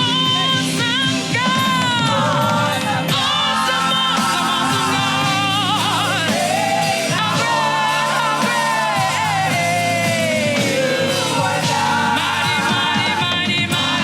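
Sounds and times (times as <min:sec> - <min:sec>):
band accompaniment: 0:00.0 - 0:14.0
lead singer with vibrato: 0:00.0 - 0:14.0.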